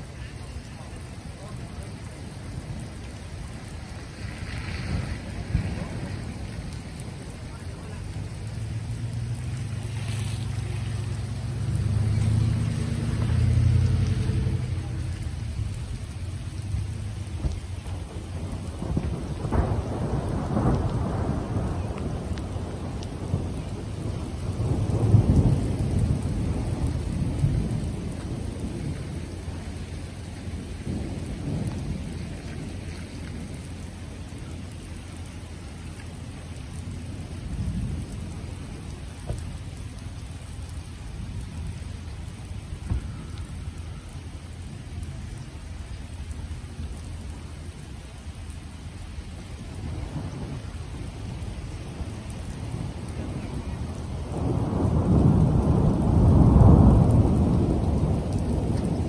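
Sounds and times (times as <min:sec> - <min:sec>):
thunder rumbling: 0:00.0 - 0:59.0.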